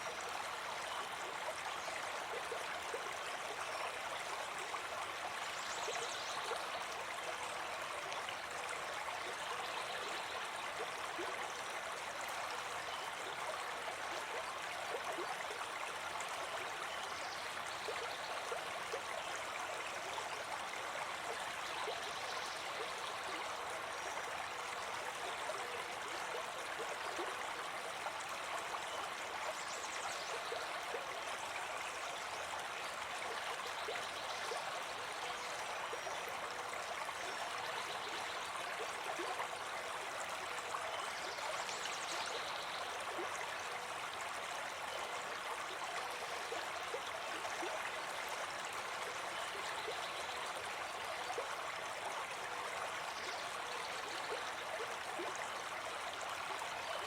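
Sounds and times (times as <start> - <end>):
brook babbling: 0.0 - 57.0.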